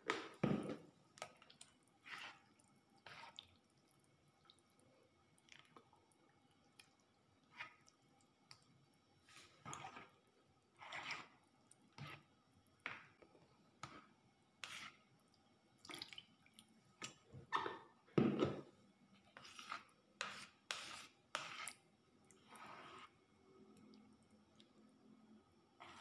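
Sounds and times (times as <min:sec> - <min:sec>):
spoon stirring liquid in bowl: 0:00.0 - 0:04.8, 0:05.4 - 0:24.8, 0:25.8 - 0:26.0.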